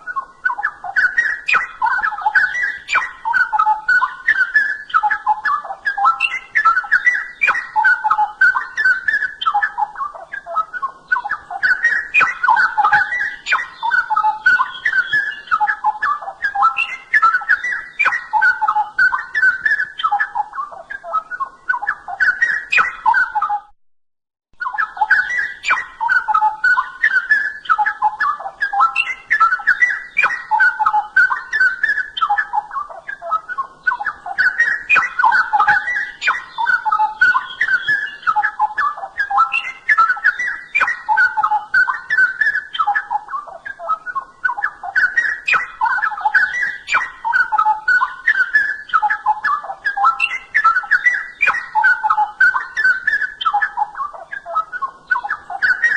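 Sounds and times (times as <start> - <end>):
bird singing warbled phrases: 0.0 - 23.7, 24.6 - 55.9.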